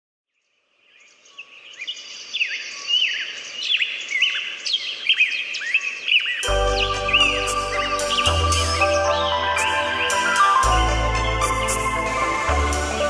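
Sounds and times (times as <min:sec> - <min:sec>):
birds chirping and singing: 0:00.8 - 0:13.0.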